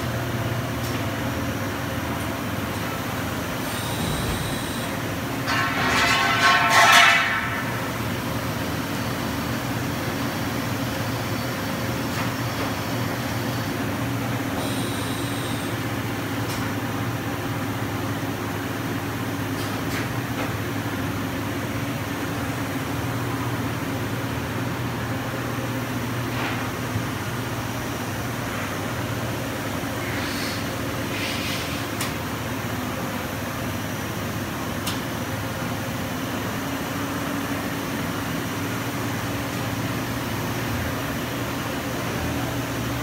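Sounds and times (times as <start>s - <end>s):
machinery hum: 0.0s - 43.0s.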